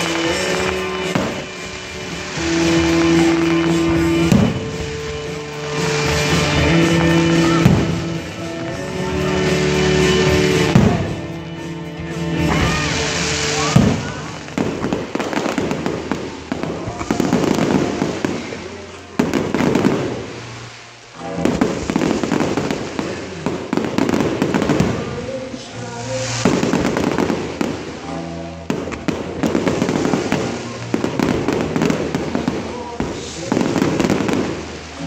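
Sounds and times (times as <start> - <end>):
fireworks banging and crackling: 0.0 - 35.0
music playing: 0.0 - 35.0.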